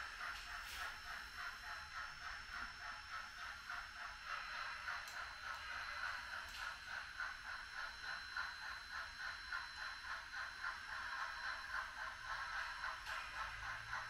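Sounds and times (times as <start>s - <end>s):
model train rattling on track: 0.0s - 14.0s.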